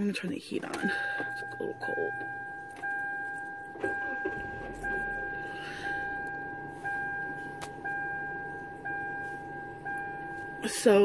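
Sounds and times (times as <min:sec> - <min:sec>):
car warning chime dinging: 0:00.0 - 0:11.0.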